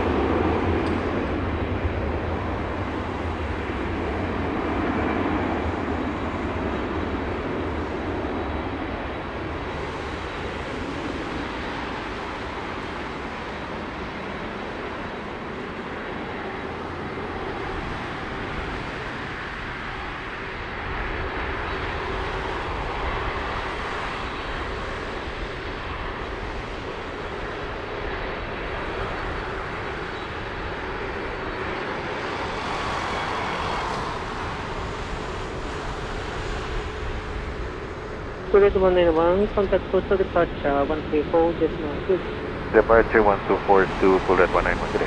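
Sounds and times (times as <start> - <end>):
jet engines rumbling: 0.0 - 45.0.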